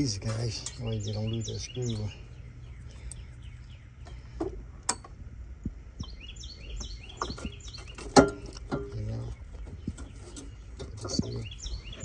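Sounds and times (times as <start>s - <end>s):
birds chirping: 0.0s - 5.0s, 5.6s - 12.0s
steady low hum: 0.0s - 12.0s.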